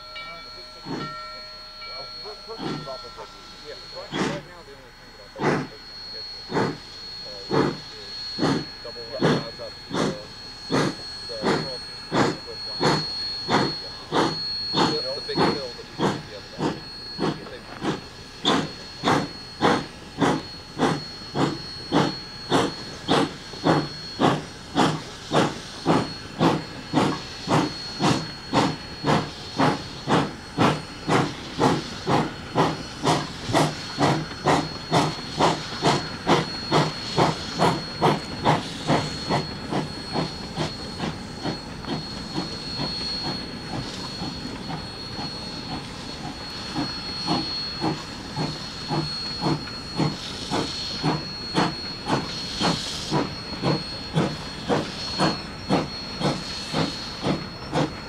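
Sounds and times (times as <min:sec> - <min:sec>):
steam locomotive exhaust chuffs: 0:00.0 - 0:58.0
steam hissing: 0:00.4 - 0:01.1, 0:01.8 - 0:58.0.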